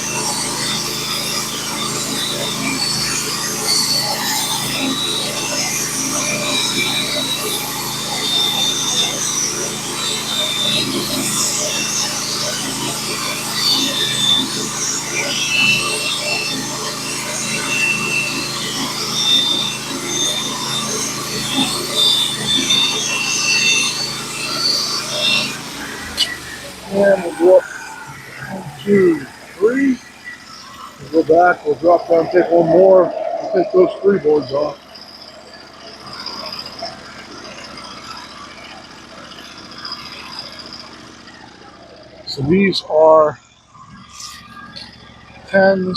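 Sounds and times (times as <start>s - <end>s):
sawmill cutting log: 0.0s - 43.3s
high whine: 0.0s - 45.9s.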